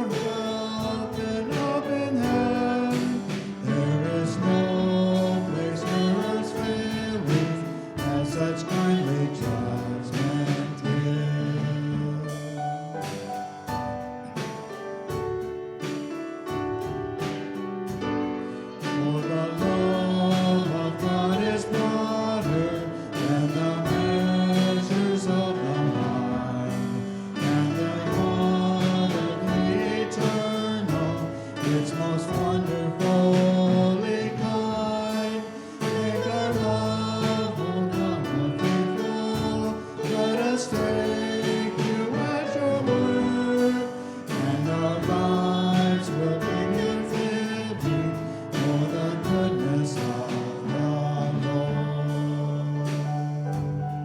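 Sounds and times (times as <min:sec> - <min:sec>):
group singing a hymn: 0:00.0 - 0:13.6, 0:18.2 - 0:54.0
instrumental accompaniment: 0:00.0 - 0:54.0.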